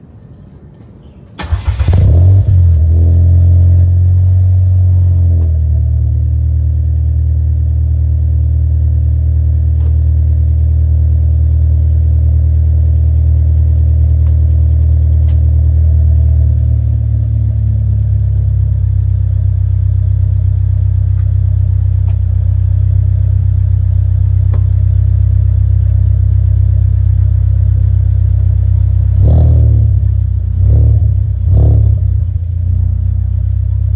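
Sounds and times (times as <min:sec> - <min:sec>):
car engine starting and idling: 0:01.3 - 0:33.9.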